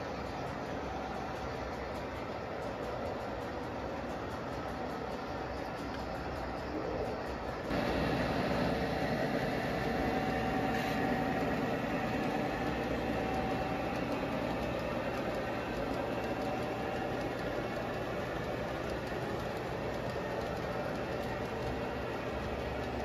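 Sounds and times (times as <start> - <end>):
faint steady whine: 0.0 - 23.0
model train running hum: 0.0 - 23.0.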